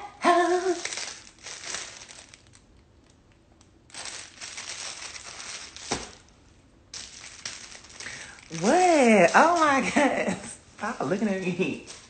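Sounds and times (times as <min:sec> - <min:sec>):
plastic packaging crinkling: 0:00.3 - 0:10.1, 0:11.1 - 0:12.0.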